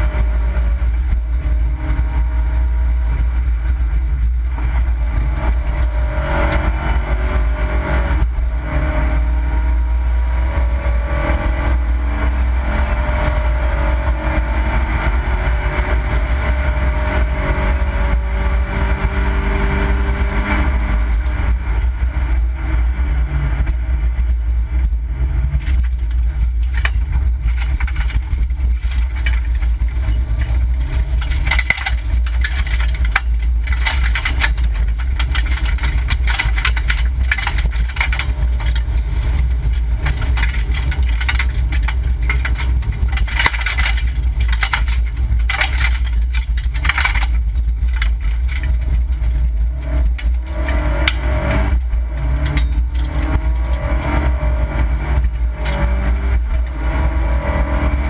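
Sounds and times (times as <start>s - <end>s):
gravel clattering against car underside: 0.0s - 8.6s, 9.6s - 58.0s
car engine rumbling: 0.0s - 58.0s.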